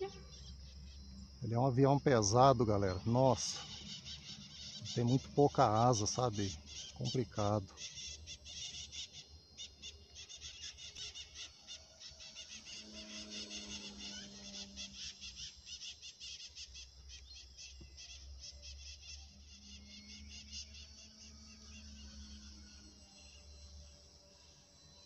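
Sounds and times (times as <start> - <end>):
model airplane engine drone: 0.0 - 25.0.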